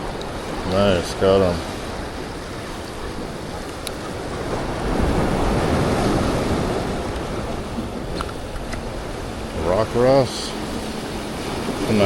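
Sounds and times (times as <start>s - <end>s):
waves washing against rocks: 0.0s - 12.0s
wind on microphone: 0.0s - 12.0s.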